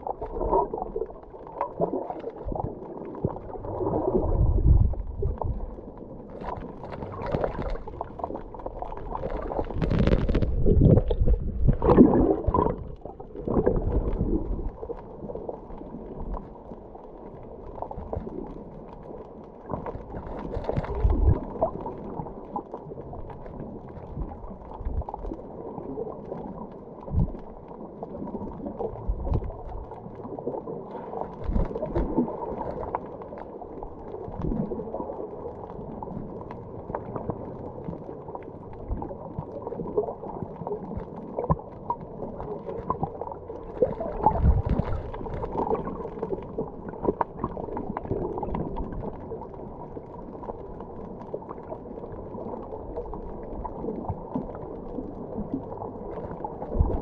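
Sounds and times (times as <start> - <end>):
water sloshing and splashing: 0.0 - 16.8, 19.6 - 57.0
muffled underwater wash: 0.0 - 57.0.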